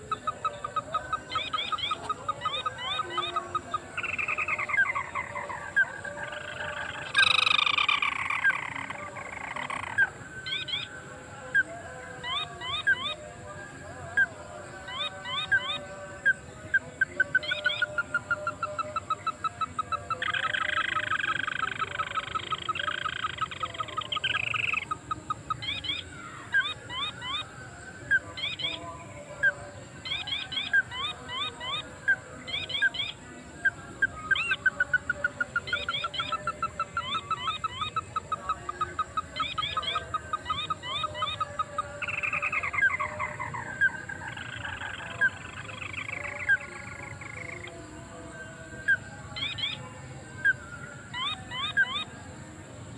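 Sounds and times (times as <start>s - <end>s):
chattering bird trill: 0.0s - 52.9s
crake calling: 0.0s - 52.9s.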